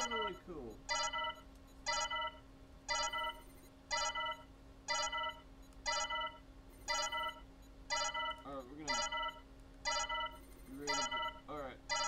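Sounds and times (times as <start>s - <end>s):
electronic alarm beeps: 0.0s - 12.0s
faint low hum: 0.0s - 12.0s.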